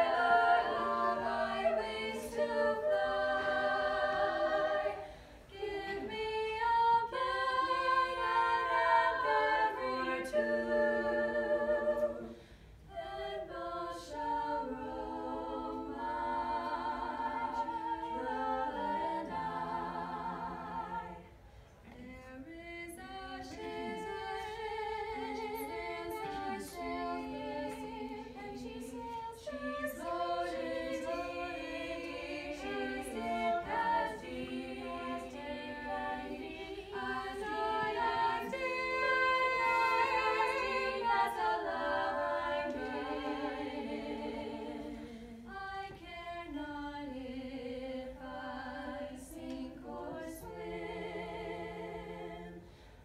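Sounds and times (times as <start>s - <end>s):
women singing a cappella: 0.0s - 53.0s.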